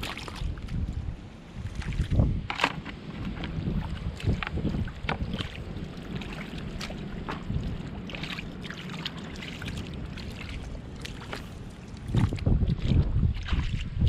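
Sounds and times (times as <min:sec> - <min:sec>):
hands squelching through mud: 0:00.0 - 0:00.9, 0:03.2 - 0:14.0
wind rumble on microphone: 0:00.0 - 0:14.0.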